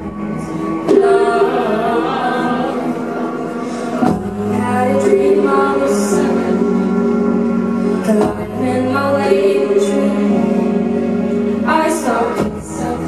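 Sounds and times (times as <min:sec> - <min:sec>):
low sustained backing: 0:00.0 - 0:13.0
woman singing into microphone: 0:00.4 - 0:13.0.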